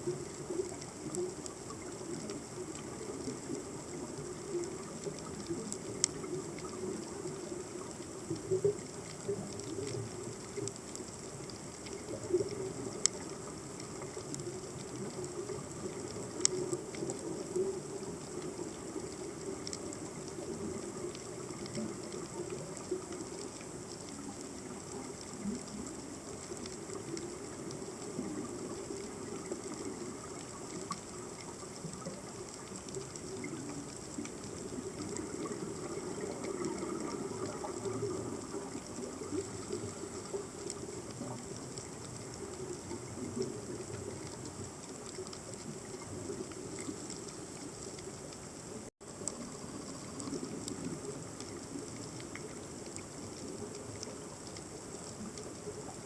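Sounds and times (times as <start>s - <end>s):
faint crackling clicks: 0.0s - 56.0s
underwater water noise: 0.0s - 56.0s.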